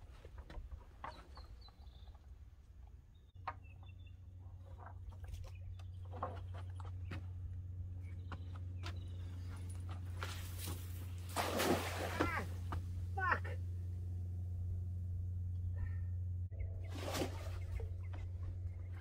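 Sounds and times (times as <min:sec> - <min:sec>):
birds chirping: 0:00.4 - 0:19.0
steady low hum: 0:02.1 - 0:19.0.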